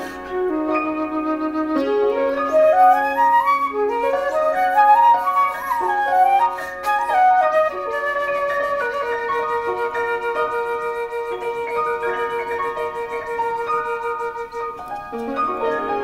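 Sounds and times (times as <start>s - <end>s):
calm flute melody: 0.0s - 16.0s.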